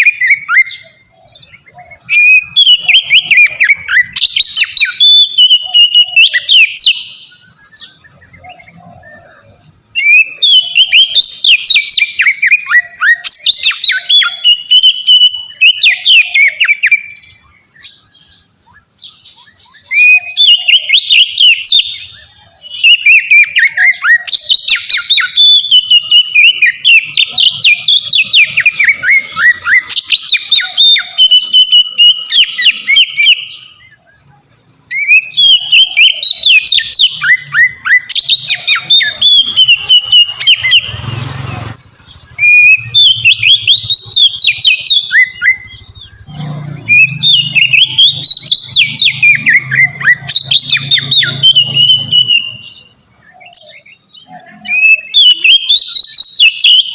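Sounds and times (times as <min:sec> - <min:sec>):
bird singing whistled notes: 0:00.0 - 0:56.9.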